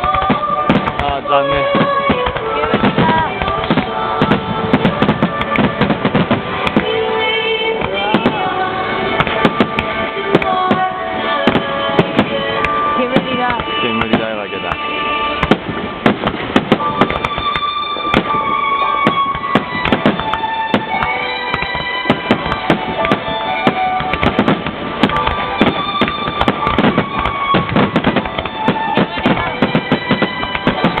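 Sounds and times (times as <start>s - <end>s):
fireworks bursts: 0.0s - 31.0s
music with long held notes: 0.0s - 31.0s.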